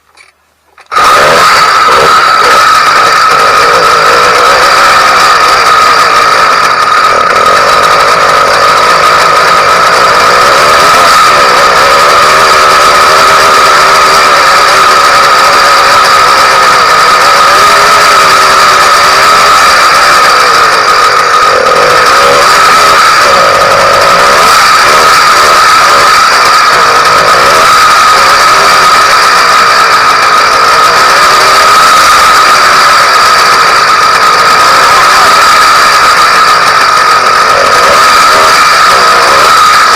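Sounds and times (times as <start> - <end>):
two-stroke engine running: 0.8 - 39.9.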